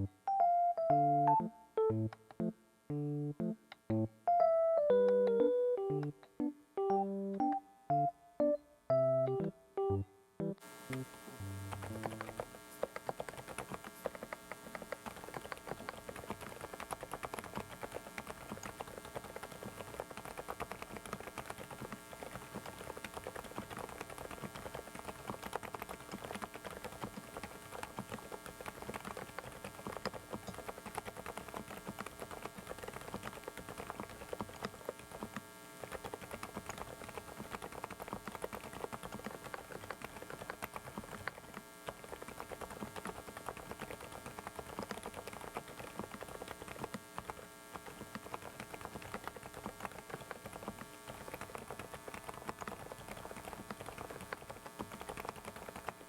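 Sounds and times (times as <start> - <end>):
electrical hum: 0.0 - 56.0
mechanical keyboard typing: 10.9 - 56.0.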